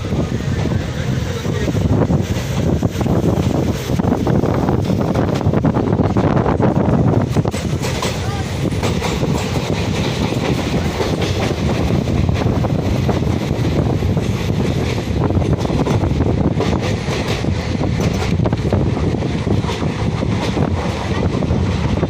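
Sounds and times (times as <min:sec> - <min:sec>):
train rumbling on rails: 0:00.0 - 0:22.0
wind noise on microphone: 0:00.0 - 0:22.0.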